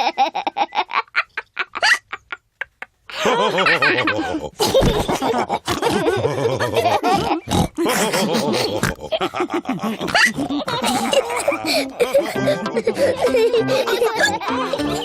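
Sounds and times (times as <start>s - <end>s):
cartoon pigs laughing and snorting: 0.0s - 15.0s.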